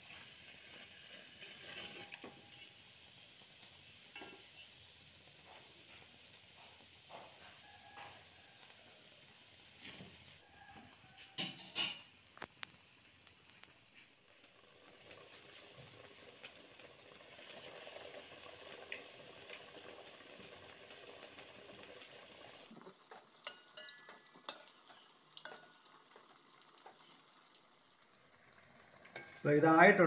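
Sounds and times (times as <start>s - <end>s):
food deep-frying in hot oil: 0.0s - 30.0s.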